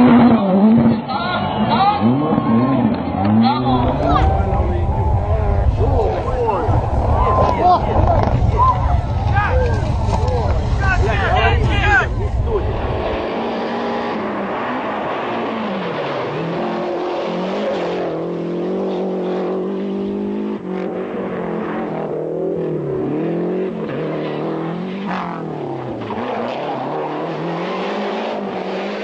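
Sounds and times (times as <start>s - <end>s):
rally car engine running hard: 0.0s - 29.0s.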